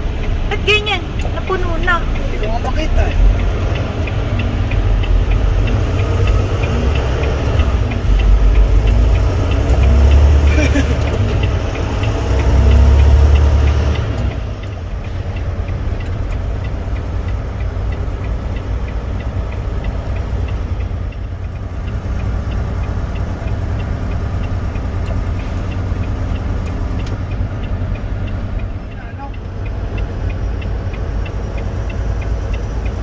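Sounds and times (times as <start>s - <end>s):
faint ticking: 0.0s - 33.0s
road noise: 0.0s - 33.0s
truck engine rumble: 0.0s - 33.0s.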